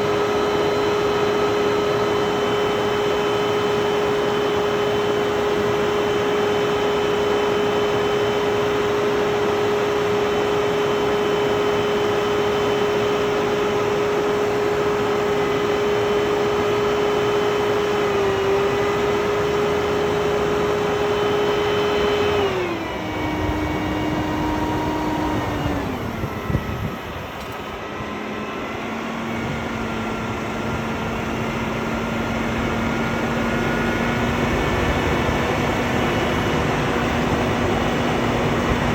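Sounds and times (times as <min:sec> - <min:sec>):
machine hum with whine: 0:00.0 - 0:38.9.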